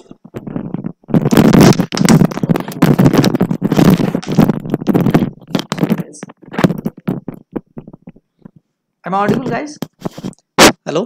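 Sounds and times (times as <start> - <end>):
microphone crackling and rubbing: 0.0 - 10.9.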